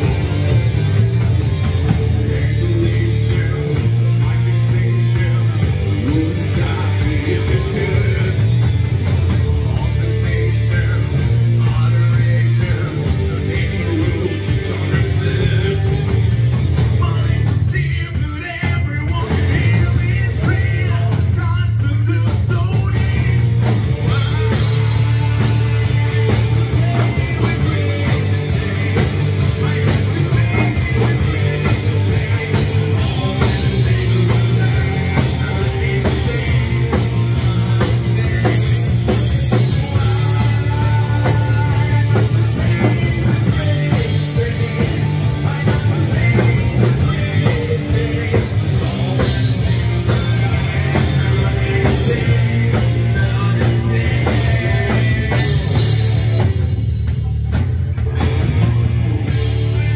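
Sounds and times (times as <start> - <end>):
rock band playing: 0.0 - 59.9
male singer: 1.6 - 56.6.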